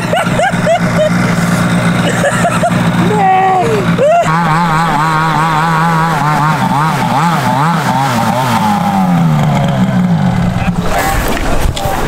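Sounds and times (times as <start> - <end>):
snowmobile engine running hard: 0.0 - 12.0.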